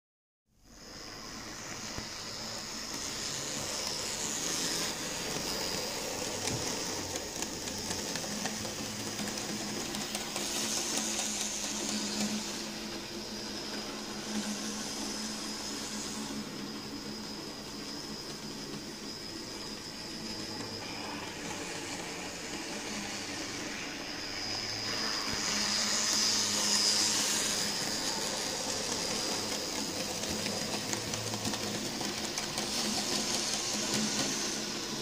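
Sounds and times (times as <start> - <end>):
model train motor whining: 0.8 - 35.0.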